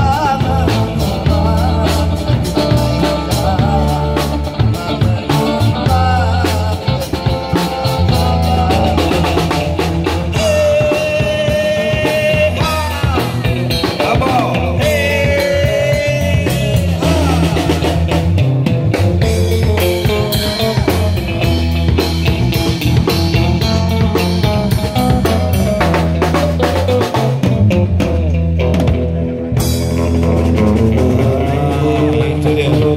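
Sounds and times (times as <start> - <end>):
band playing rock music: 0.0 - 32.9.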